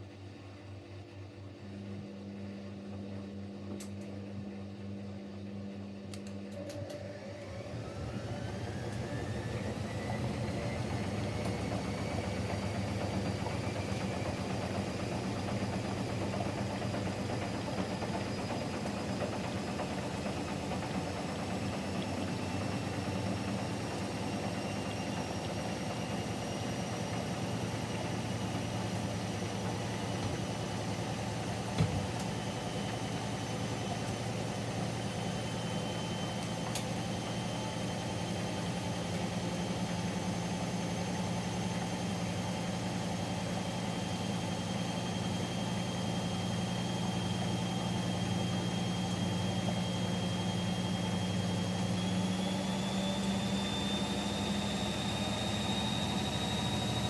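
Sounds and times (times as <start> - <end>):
washing machine hum: 0.0 - 57.0
washing machine drum motor whine: 1.4 - 57.0.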